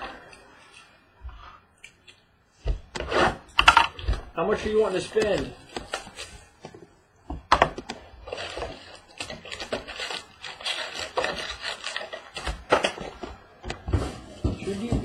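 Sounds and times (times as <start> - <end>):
cardboard rustling and scraping: 2.6 - 15.0.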